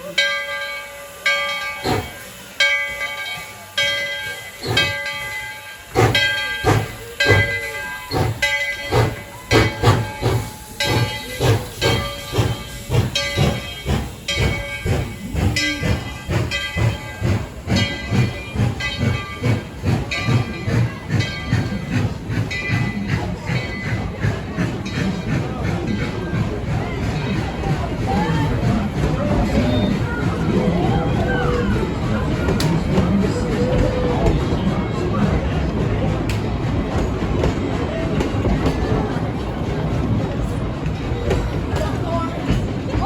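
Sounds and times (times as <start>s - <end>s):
steam hissing: 0.0s - 43.0s
steam locomotive chuffing: 0.0s - 43.0s.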